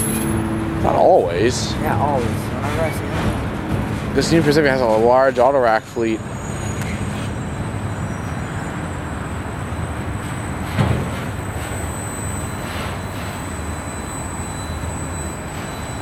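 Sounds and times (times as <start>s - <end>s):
train clank: 0.0s - 7.4s, 9.9s - 16.0s
train wheels rumbling on rail: 0.0s - 16.0s.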